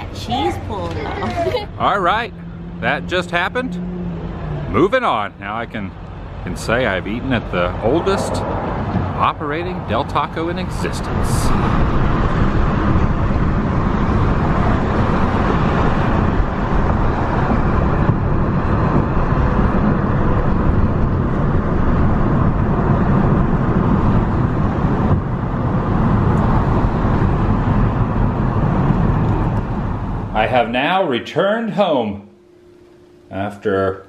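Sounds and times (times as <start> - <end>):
car road and engine noise: 0.0 - 31.0, 31.8 - 33.8.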